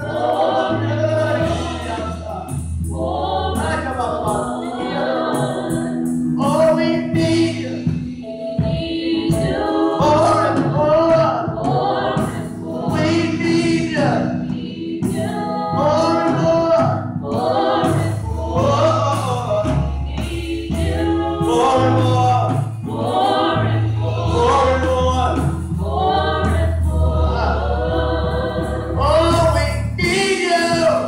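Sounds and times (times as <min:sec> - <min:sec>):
low musical backing: 0:00.0 - 0:31.0
women singing gospel: 0:00.0 - 0:31.0.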